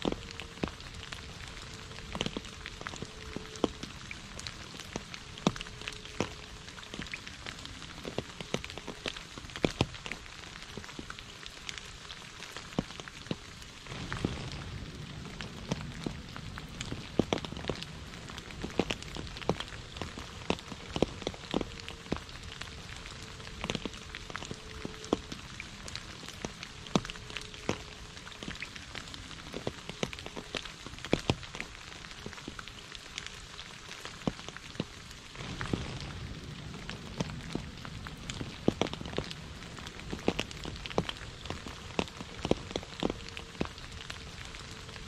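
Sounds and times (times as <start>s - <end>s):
rain pattering on puddle and leaves: 0.0s - 45.0s.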